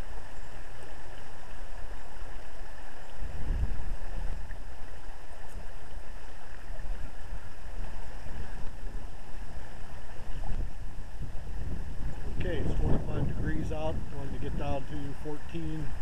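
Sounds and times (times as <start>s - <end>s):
flowing river water: 0.0s - 16.0s
wind on microphone: 0.0s - 16.0s.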